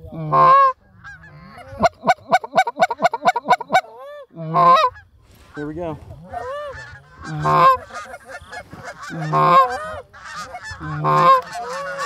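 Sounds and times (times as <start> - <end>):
geese honking: 0.0 - 12.0
loud goose honks: 0.0 - 12.0.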